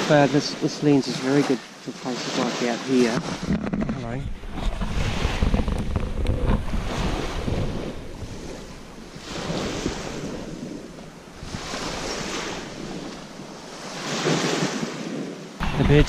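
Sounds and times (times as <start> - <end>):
small waves washing onto beach: 0.0 - 16.0
wind buffeting microphone: 3.0 - 16.0.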